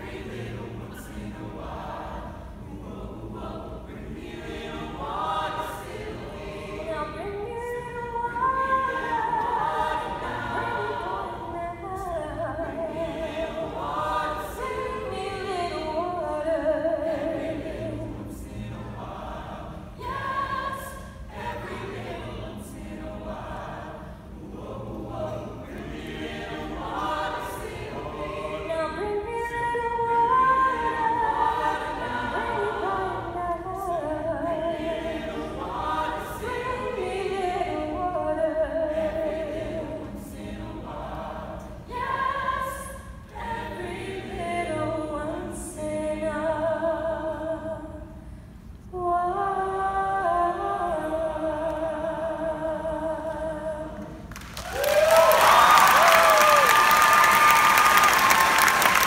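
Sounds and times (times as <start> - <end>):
choir singing a cappella: 0.0 - 54.4, 55.1 - 59.0.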